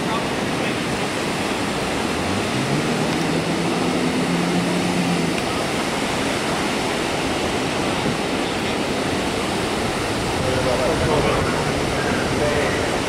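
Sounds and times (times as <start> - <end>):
outboard motor drone: 0.0 - 13.0
waves breaking on beach: 0.0 - 13.0.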